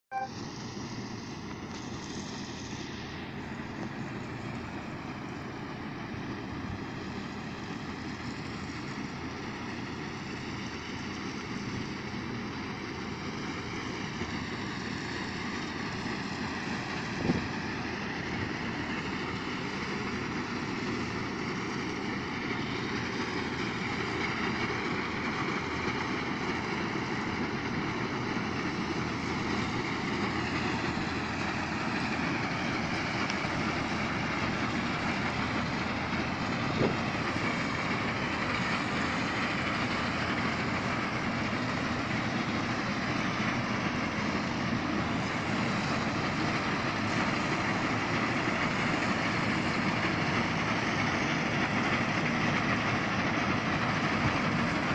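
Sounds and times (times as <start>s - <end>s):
harvest machinery engine whine: 0.1s - 54.9s.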